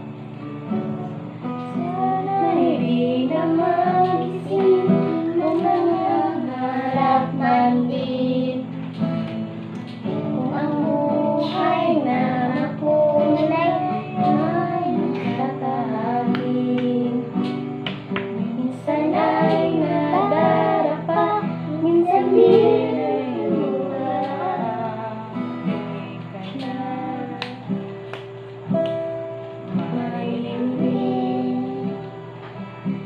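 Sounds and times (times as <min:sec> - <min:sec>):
acoustic guitar chords: 0:00.0 - 0:33.0
woman and children singing: 0:00.7 - 0:28.0, 0:29.7 - 0:32.6.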